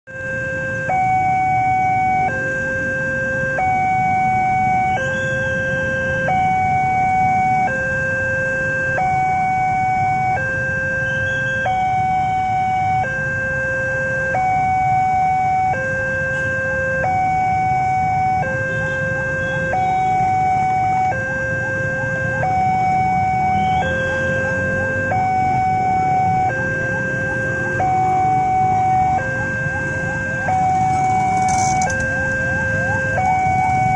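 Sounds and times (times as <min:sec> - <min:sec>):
level crossing two-tone alarm: 0:00.1 - 0:33.9
idling cars and motorcycles: 0:00.5 - 0:33.9.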